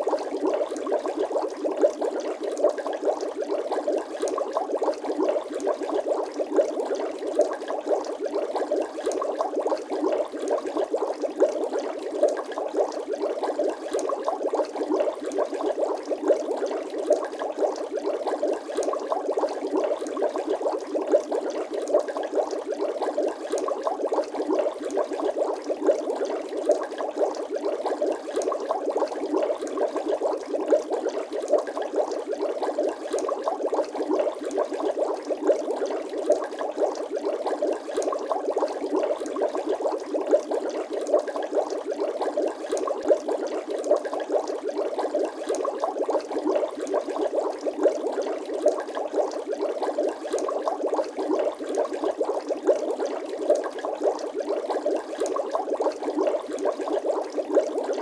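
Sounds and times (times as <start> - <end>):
water bubbling and gurgling: 0.0 - 58.0.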